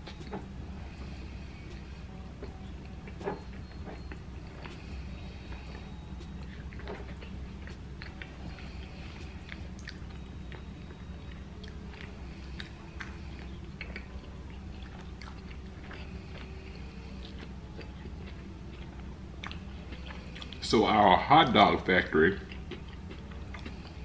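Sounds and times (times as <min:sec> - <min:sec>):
man chewing: 0:00.0 - 0:20.7, 0:22.4 - 0:24.0
steady low hum: 0:00.0 - 0:24.0.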